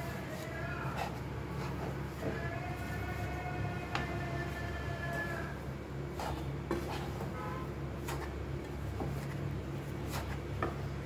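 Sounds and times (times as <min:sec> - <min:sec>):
spatula stirring powder in metal pan: 0:00.0 - 0:11.0
steady low hum: 0:00.0 - 0:11.0.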